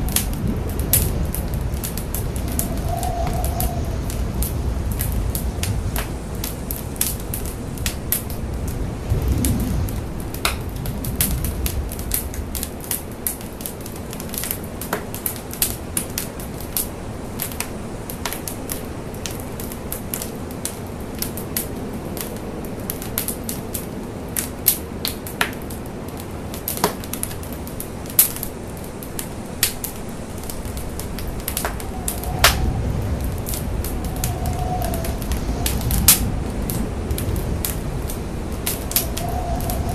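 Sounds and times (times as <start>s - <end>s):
fire crackling and popping: 0.0s - 39.9s
low rush of flame: 0.0s - 39.9s.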